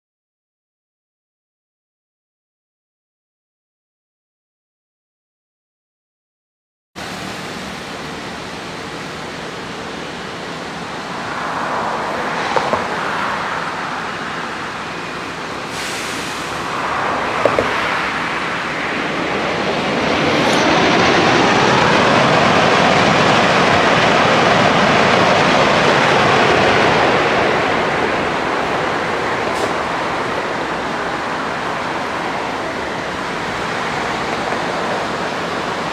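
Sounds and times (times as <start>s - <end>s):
train wheels rushing on rails: 7.0s - 35.9s.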